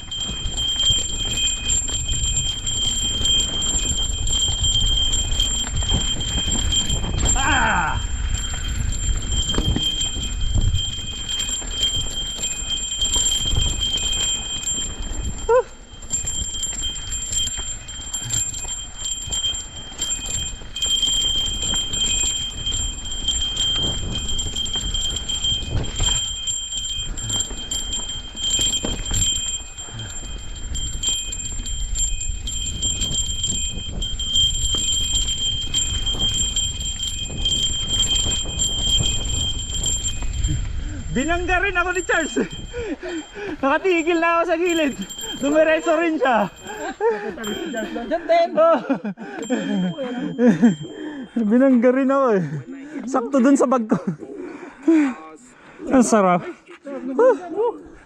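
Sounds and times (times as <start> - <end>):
mountain bike rattling: 0.0 - 54.1.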